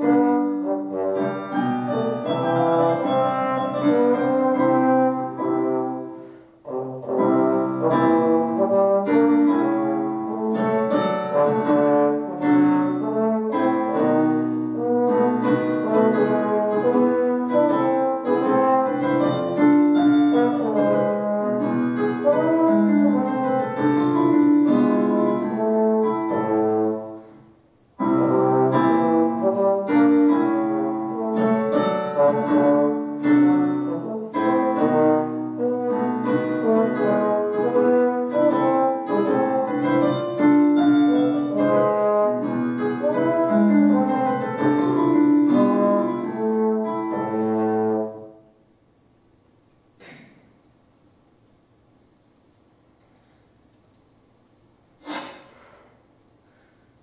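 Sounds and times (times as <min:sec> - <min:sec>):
trombone playing: 0:00.0 - 0:48.6
piano accompaniment: 0:00.0 - 0:48.7.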